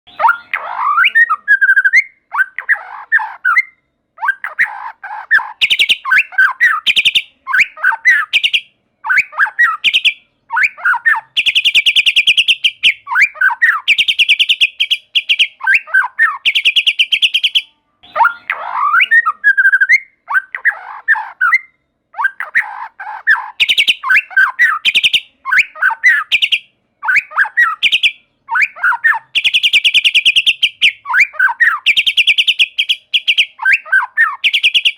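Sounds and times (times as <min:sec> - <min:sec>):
bird singing whistles and trills: 0:00.1 - 0:34.9.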